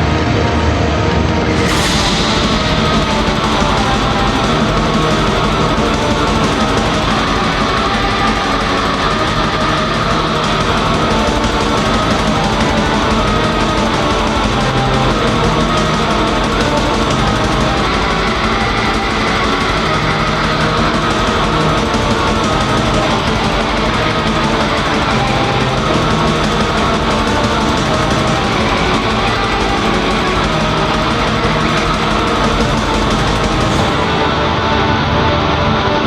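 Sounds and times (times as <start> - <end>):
distorted black metal music: 0.0 - 36.0.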